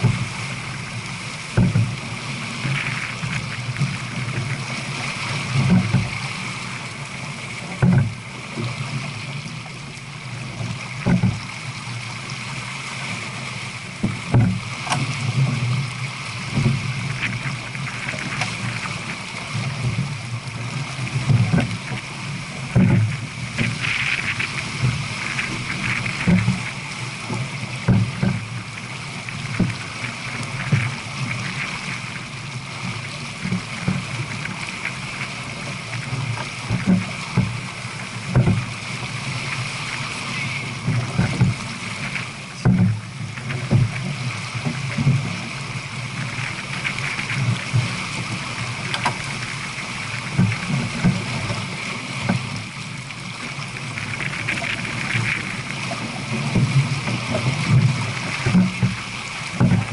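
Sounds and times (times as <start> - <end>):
water splashing along a hull: 0.0 - 59.9.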